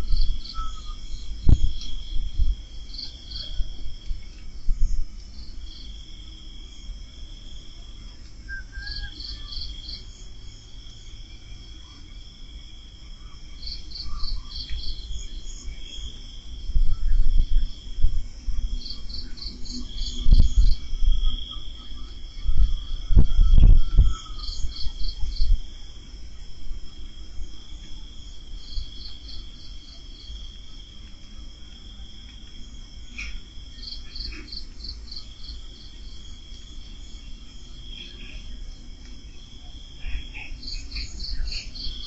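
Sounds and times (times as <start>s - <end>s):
crickets chirping in pulses: 0.0s - 42.0s
high insect trill: 0.0s - 42.0s.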